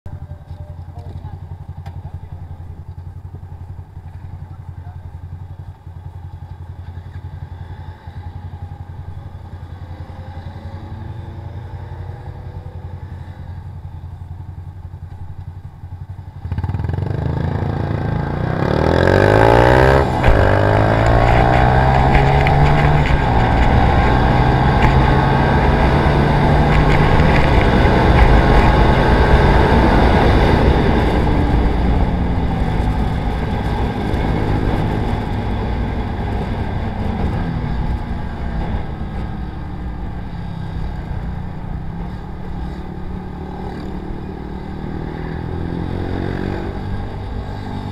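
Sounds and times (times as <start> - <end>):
motorcycle engine revving: 0.2 - 47.9.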